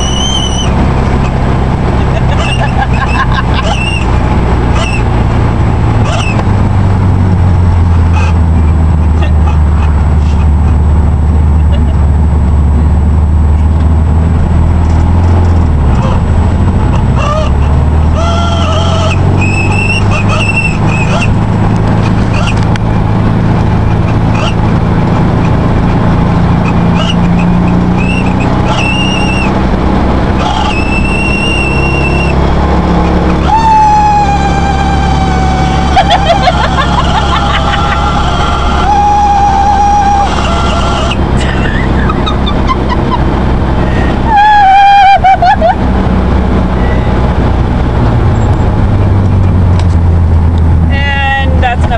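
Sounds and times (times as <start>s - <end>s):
car engine and road noise droning: 0.0s - 51.9s
speedometer squealing: 0.0s - 51.9s.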